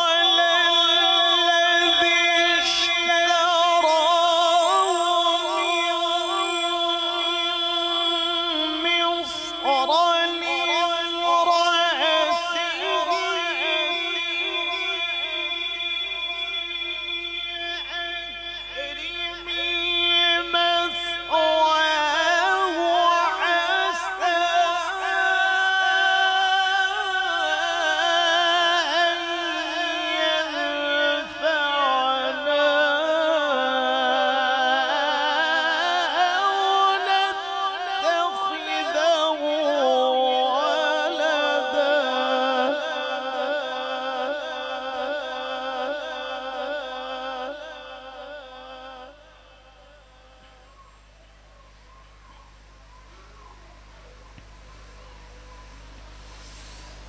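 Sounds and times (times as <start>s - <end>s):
man reciting melodically: 0.0s - 50.7s.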